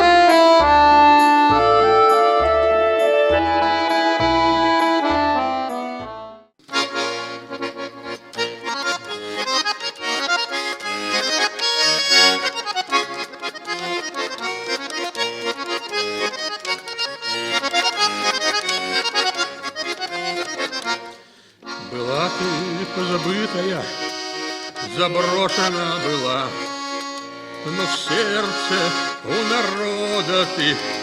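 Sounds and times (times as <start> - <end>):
button accordion melody: 0.0 - 31.0.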